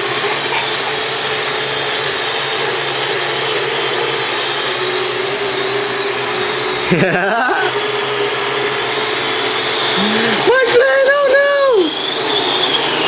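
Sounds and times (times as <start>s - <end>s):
drone propeller motors whirring: 0.0s - 13.0s.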